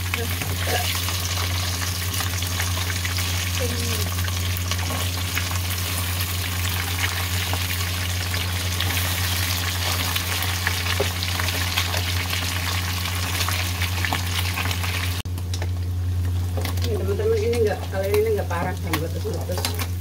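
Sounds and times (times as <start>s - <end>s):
fish sizzling in hot oil: 0.0s - 20.0s
oil popping and crackling: 0.0s - 20.0s.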